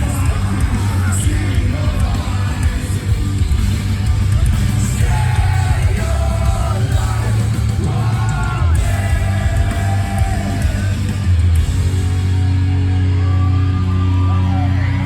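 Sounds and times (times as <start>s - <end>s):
loud metal band playing: 0.0s - 15.0s.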